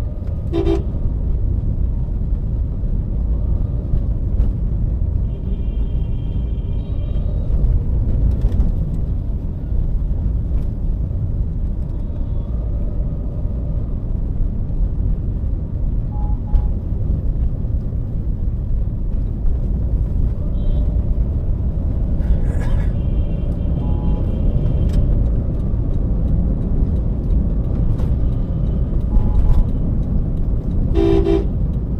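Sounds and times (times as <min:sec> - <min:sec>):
car road and engine rumble: 0:00.0 - 0:31.9.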